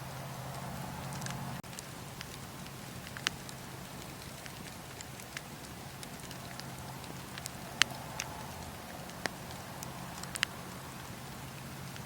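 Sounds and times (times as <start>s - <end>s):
low steady hum: 0.0s - 12.0s
wood fire crackling: 0.0s - 12.0s.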